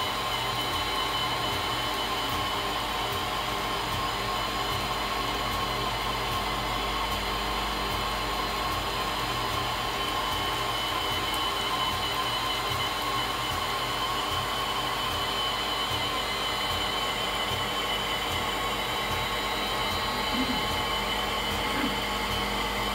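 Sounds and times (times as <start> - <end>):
machine whirring with high whine: 0.0 - 22.9.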